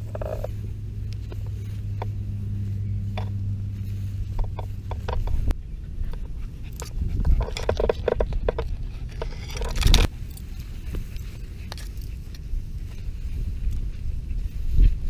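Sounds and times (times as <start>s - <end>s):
grass brushing against camera: 0.0s - 15.0s
wind rumbling on microphone: 0.0s - 15.0s.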